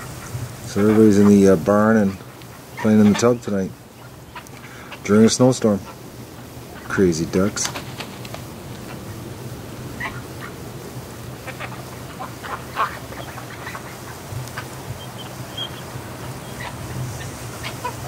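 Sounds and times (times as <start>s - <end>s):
ducks quacking: 0.0s - 18.0s
steady low hum: 0.0s - 18.0s.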